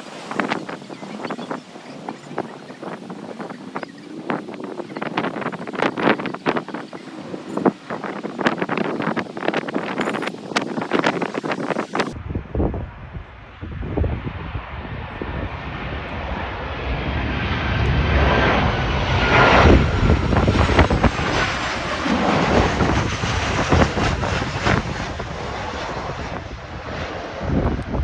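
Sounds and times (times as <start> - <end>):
jet engine whine: 0.0 - 28.0
jet engines passing: 0.0 - 28.0.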